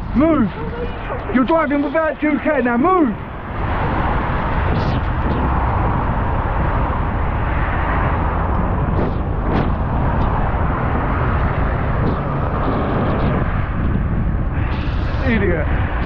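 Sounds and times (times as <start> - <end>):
vehicle road noise on wet road: 0.0 - 16.0
wind rumble on microphone: 0.0 - 16.0.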